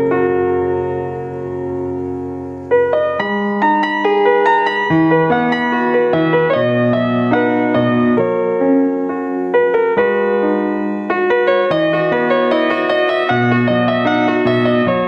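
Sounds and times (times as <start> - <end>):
piano melody over chords: 0.0 - 15.0.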